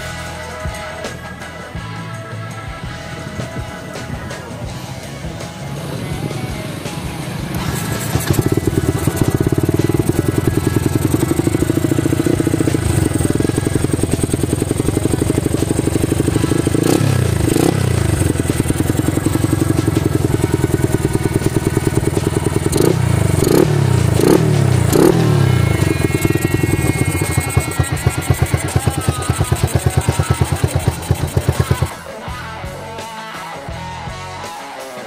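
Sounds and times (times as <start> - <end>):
motorcycle engine idling: 2.8 - 32.0
engine revving: 2.8 - 32.1.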